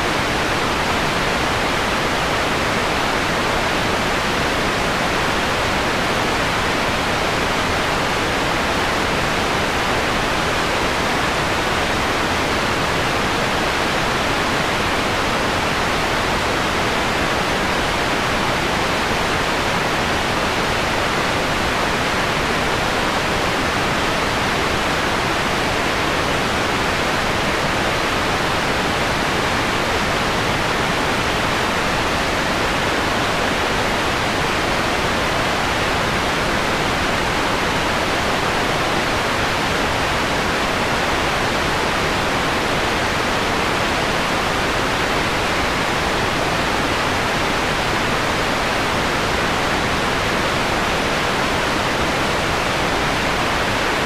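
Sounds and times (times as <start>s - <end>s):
filtered white noise hiss: 0.0s - 54.0s.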